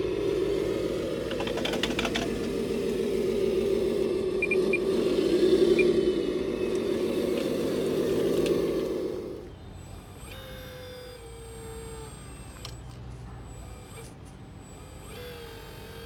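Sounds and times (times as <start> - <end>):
small electric motors whirring: 0.0 - 16.0.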